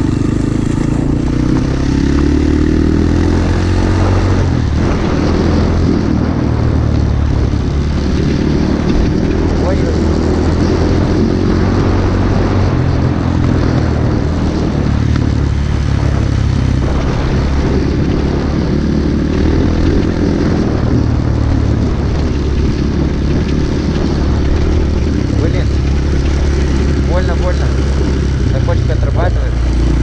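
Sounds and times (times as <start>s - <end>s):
pit bike engine running: 0.0s - 30.0s.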